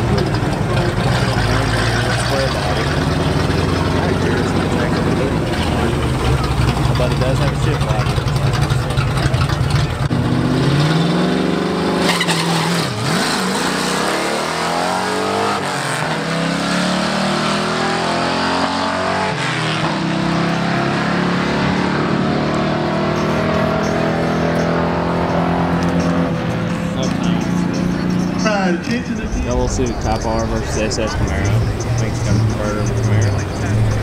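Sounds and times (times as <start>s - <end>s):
drag racing engines accelerating: 0.0s - 34.0s.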